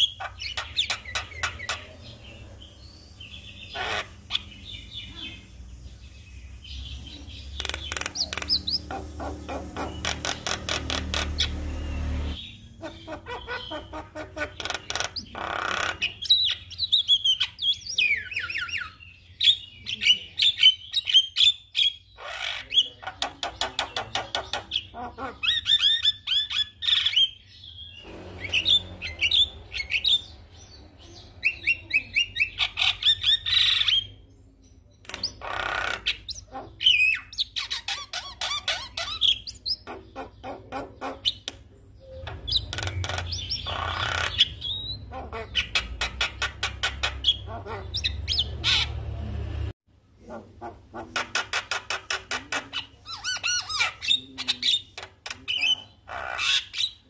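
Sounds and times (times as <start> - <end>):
myna bird singing: 0.0 - 57.0.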